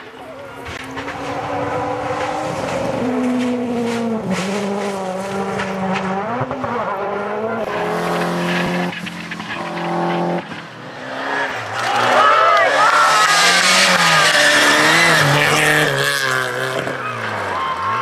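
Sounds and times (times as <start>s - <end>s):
rally car engine at high revs: 0.3s - 18.0s.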